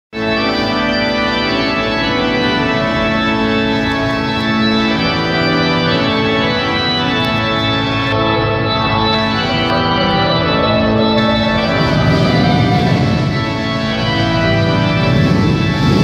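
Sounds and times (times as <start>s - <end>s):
church organ chords: 0.1s - 16.0s.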